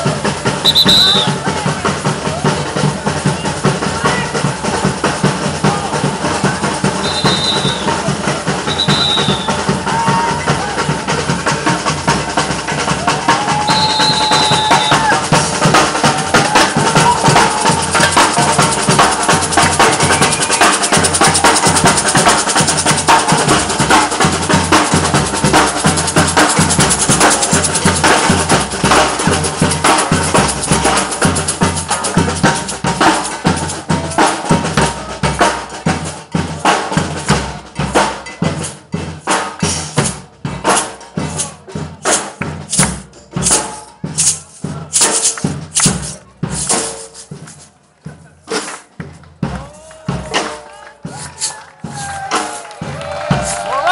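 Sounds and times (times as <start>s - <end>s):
samba drum group playing: 0.0s - 53.9s.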